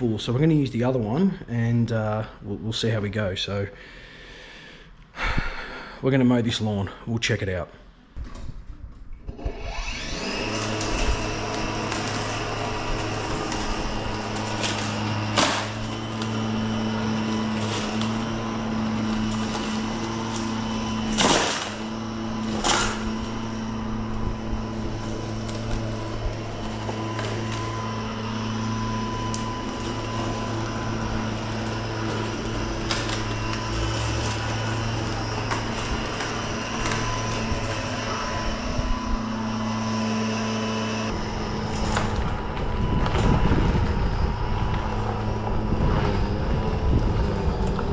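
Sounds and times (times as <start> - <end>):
lawn mower motor hum: 9.3 - 47.9.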